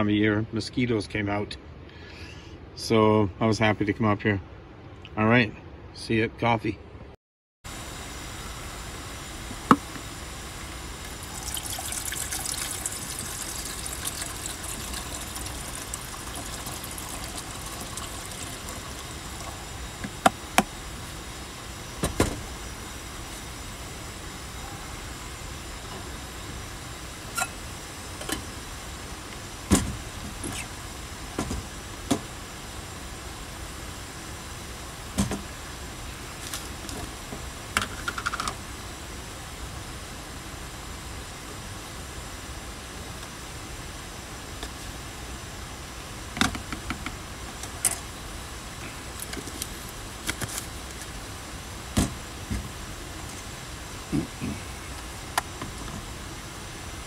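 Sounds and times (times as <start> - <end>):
steady background noise: 0.0 - 57.0
steady hiss: 7.7 - 57.0.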